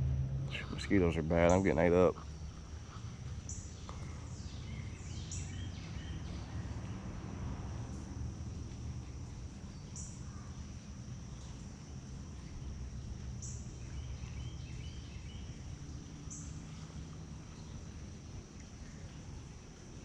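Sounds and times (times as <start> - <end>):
insects buzzing: 0.0 - 20.0
low steady rumble: 0.0 - 20.0.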